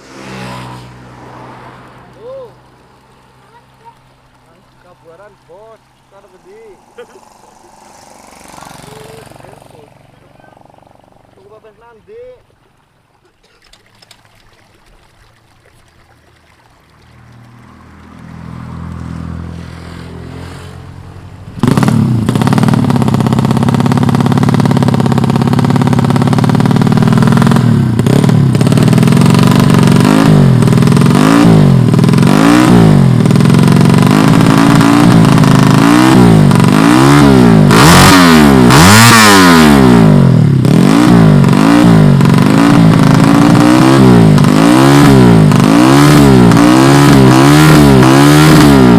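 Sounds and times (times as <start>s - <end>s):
motorcycle engine revving: 0.0s - 12.3s, 17.1s - 48.9s.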